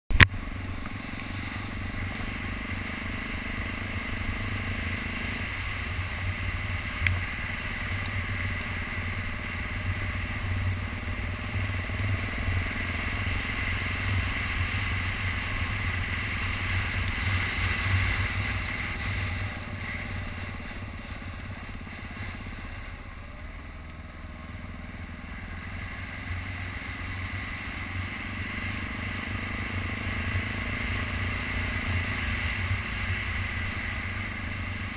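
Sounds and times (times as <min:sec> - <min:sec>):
motorcycle engine rumbling: 0:00.1 - 0:34.9.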